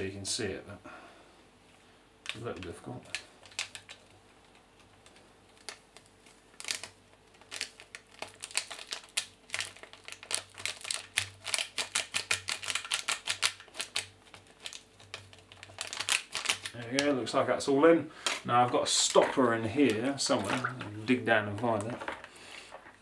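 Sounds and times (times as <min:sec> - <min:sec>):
foil sachet crinkling and tapping: 0:02.2 - 0:17.5, 0:18.1 - 0:23.0.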